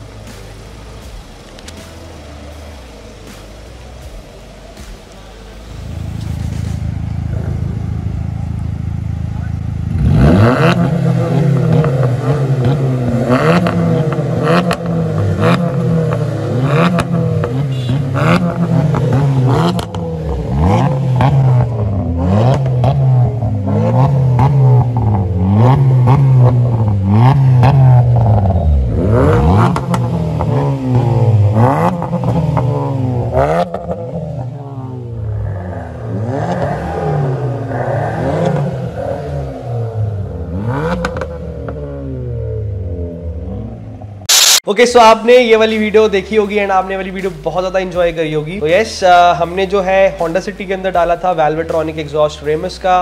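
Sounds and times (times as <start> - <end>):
car engines revving: 0.0 - 44.6
exhaust cracks: 0.0 - 53.0.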